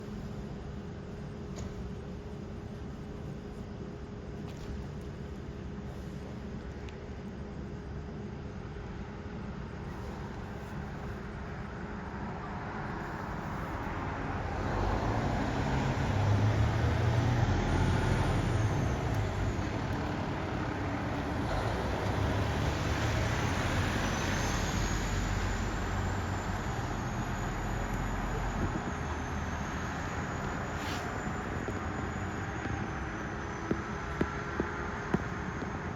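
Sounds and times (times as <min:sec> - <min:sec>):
fire truck engine rumble: 0:00.0 - 0:35.9
traffic noise: 0:00.0 - 0:35.9.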